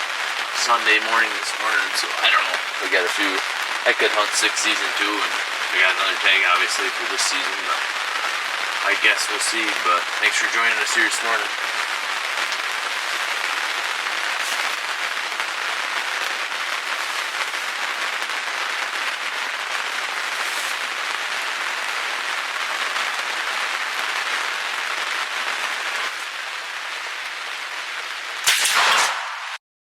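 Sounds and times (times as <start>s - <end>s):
heavy rain on fabric roof: 0.0s - 29.6s.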